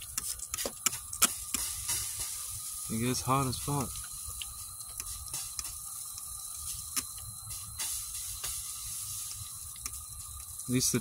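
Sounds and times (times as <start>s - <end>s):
propane burner rumble: 0.0s - 11.0s
water sizzling on hot pipe: 0.0s - 11.0s.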